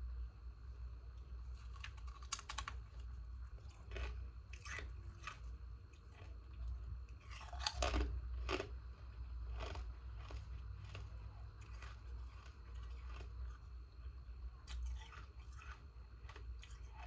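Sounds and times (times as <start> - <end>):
steady low hum: 0.0 - 17.0
ice being chewed: 1.4 - 17.0.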